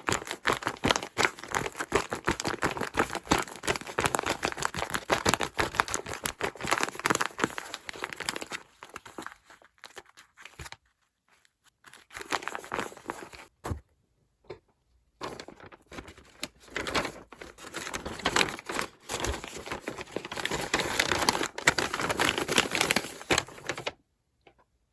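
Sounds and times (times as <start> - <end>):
paper crinkling and crumpling: 0.0 - 13.5, 15.2 - 24.0.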